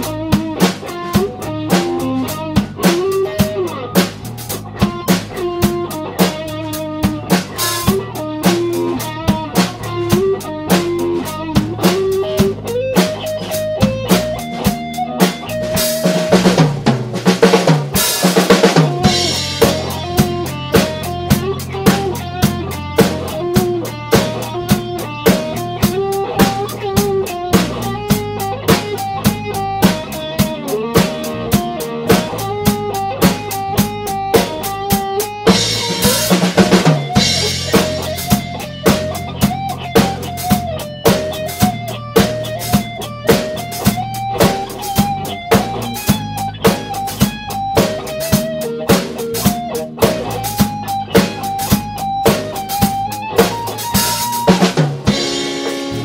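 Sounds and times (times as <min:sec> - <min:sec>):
drum kit beat: 0:00.0 - 0:56.0
electric bass: 0:00.0 - 0:56.0
lead electric guitar melody: 0:00.0 - 0:56.0.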